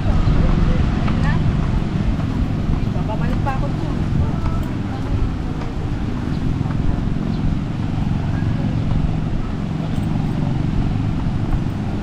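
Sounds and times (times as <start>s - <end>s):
small waves washing onto sand: 0.0s - 12.0s
wind buffeting the microphone: 0.0s - 12.0s.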